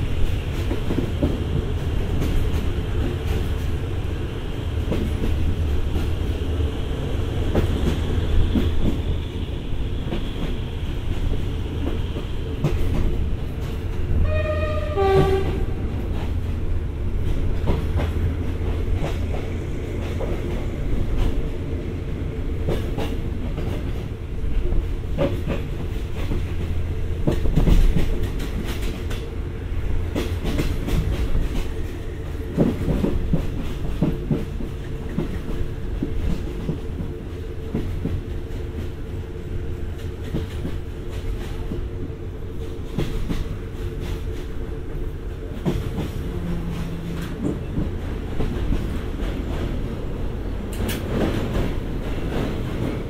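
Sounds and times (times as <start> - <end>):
low rumble of train carriage: 0.0 - 53.0.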